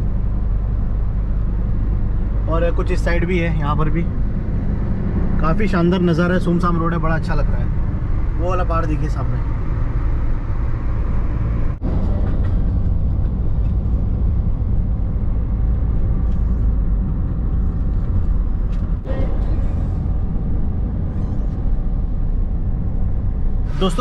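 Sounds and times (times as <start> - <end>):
road and engine rumble in car: 0.0 - 24.0.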